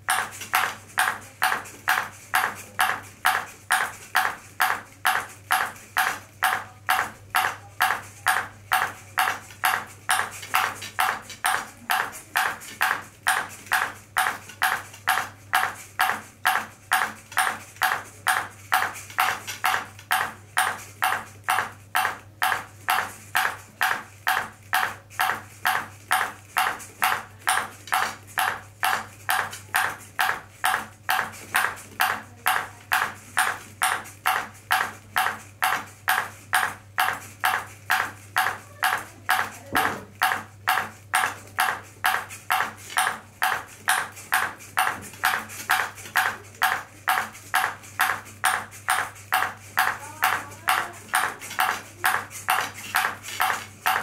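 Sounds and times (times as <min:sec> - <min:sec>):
ping pong ball bouncing on plastic: 0:00.0 - 0:54.0.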